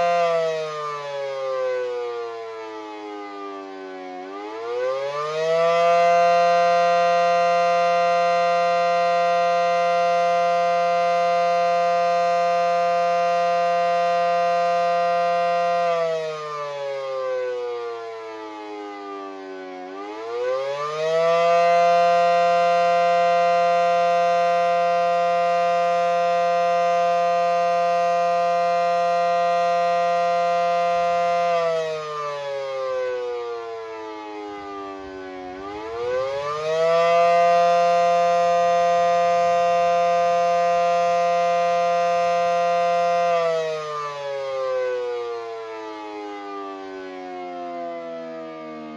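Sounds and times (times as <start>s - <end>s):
warning siren winding up and down: 0.0s - 48.9s.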